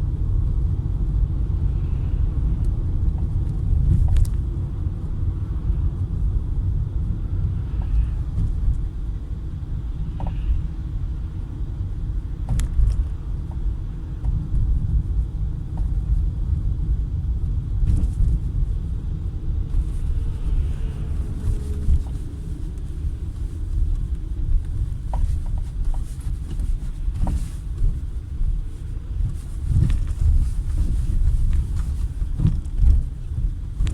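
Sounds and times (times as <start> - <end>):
car road rumble: 0.0 - 33.9.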